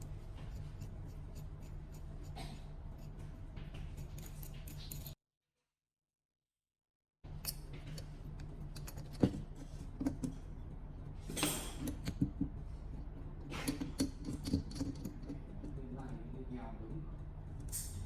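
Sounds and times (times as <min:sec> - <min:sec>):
steady low hum: 0:00.0 - 0:05.2, 0:07.3 - 0:18.0.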